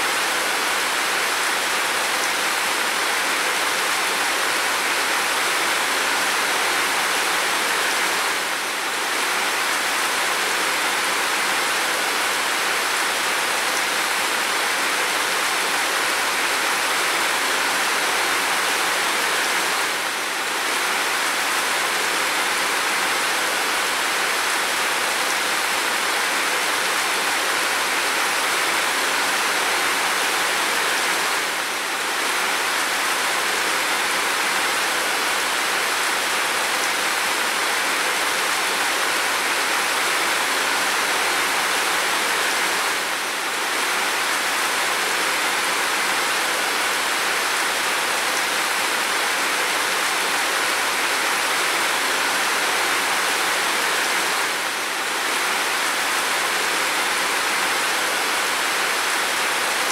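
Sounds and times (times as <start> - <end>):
steady rain on window and roof: 0.0 - 59.9.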